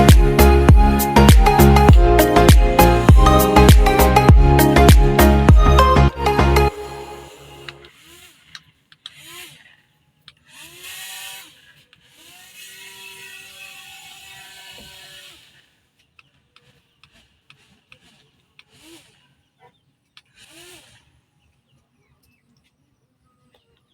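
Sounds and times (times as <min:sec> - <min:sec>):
small electric motors whining: 0:00.0 - 0:21.7.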